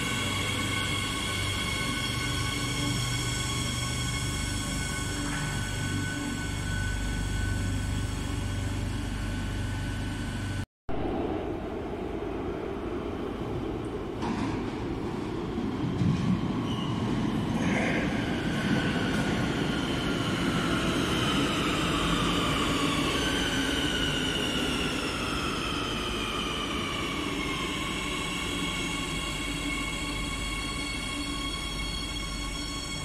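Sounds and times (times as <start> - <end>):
wheels rumbling on rails: 0.0 - 27.6.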